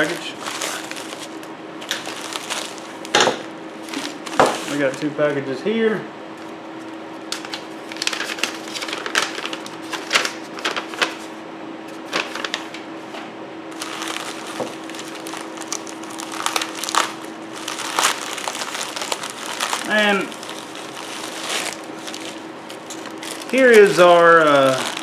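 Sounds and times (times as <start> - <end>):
plastic mailer crinkling: 0.0 - 3.2, 3.8 - 5.1, 7.3 - 11.3, 12.0 - 12.8, 13.7 - 25.0
faint steady hum: 0.0 - 25.0.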